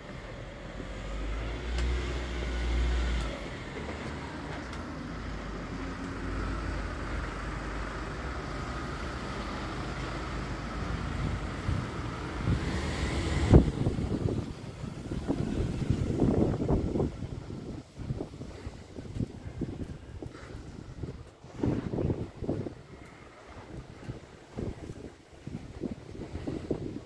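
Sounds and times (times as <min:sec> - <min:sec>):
traffic engine and tyre hum: 0:00.0 - 0:27.0.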